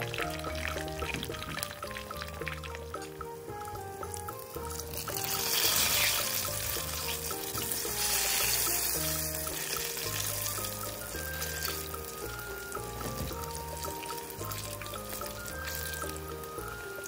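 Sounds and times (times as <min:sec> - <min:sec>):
background music: 0:00.0 - 0:17.0
food sizzling in hot oil: 0:00.0 - 0:17.0.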